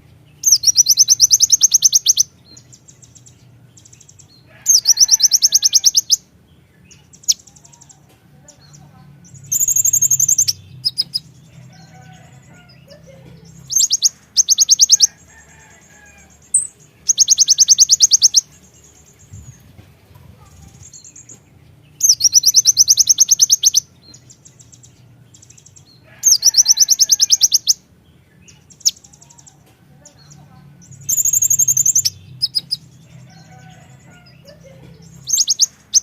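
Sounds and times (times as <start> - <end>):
sunbird trilling song: 0.0 - 36.0.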